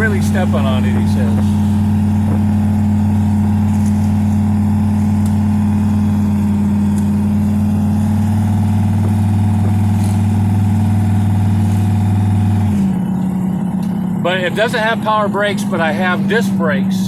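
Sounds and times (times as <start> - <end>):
car engine low drone: 0.0 - 17.0.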